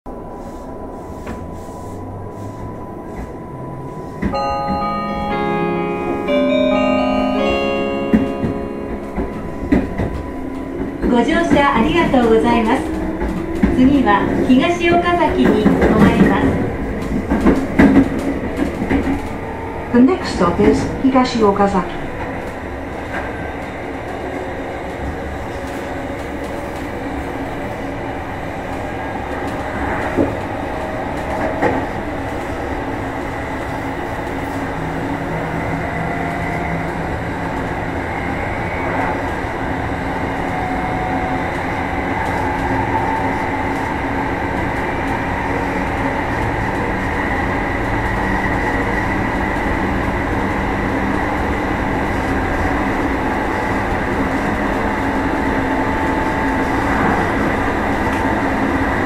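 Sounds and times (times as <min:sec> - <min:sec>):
wheel and rail rumble: 0:00.1 - 0:59.0.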